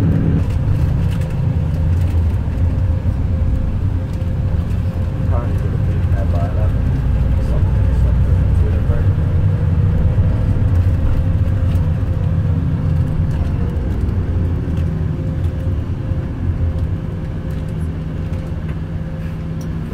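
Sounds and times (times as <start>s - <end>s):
bus engine and road rumble: 0.0s - 19.9s.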